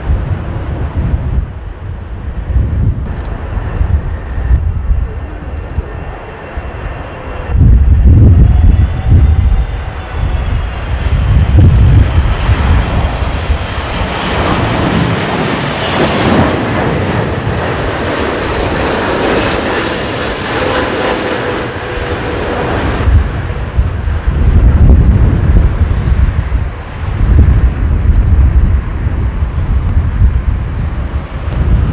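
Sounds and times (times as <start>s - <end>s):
jet engines passing: 0.0s - 31.9s
wind buffeting the microphone: 0.0s - 31.9s.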